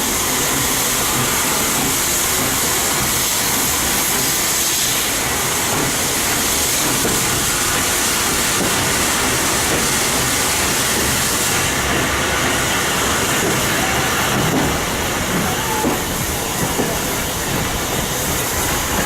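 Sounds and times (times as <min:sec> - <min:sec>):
steam train rumble and hiss: 0:00.0 - 0:19.0.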